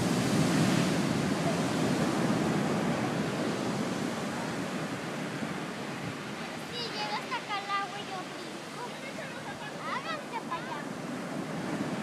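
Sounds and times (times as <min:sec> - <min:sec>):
ocean wave breaking: 0:00.0 - 0:12.0.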